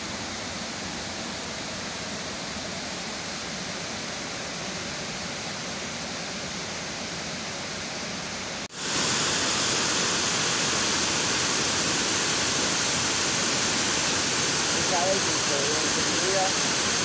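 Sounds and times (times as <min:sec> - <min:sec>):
river water roaring over weir: 0:00.0 - 0:17.0.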